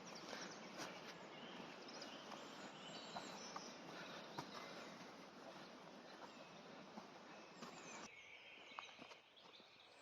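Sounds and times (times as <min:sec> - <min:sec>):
faint birdsong: 0:00.0 - 0:10.0.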